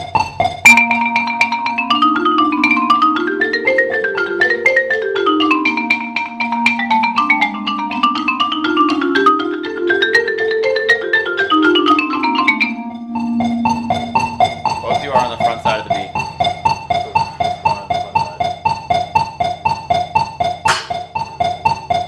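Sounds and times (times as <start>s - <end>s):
marimba played with mallets: 0.0s - 22.0s.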